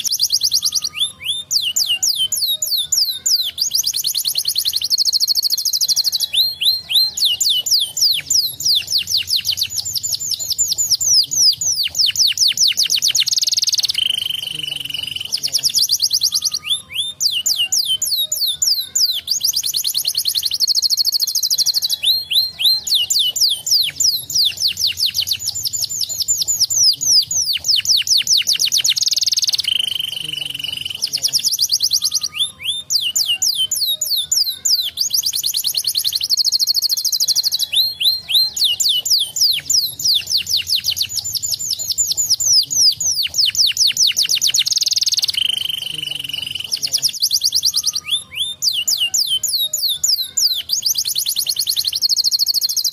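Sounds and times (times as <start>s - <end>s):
canary singing trills and whistles: 0.0s - 52.9s.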